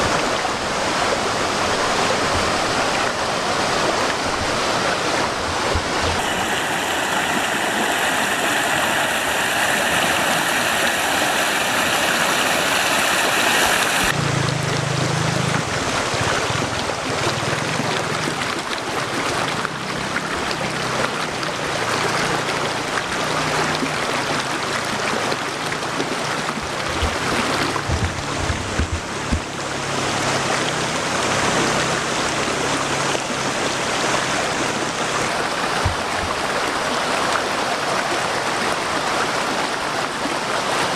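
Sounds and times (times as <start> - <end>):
waterfall pouring over rocks: 0.0 - 40.9.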